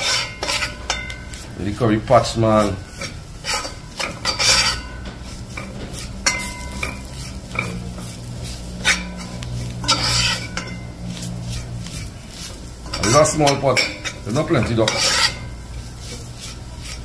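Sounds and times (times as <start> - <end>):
low steady hum: 0.0 - 17.0
metal ladle scraping pot: 0.0 - 17.0.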